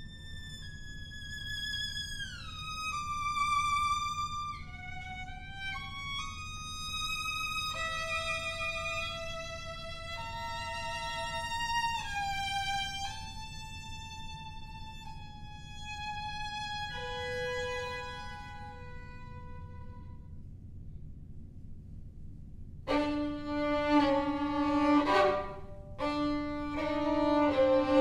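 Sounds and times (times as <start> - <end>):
solo violin playing: 0.0 - 20.2, 22.9 - 28.0.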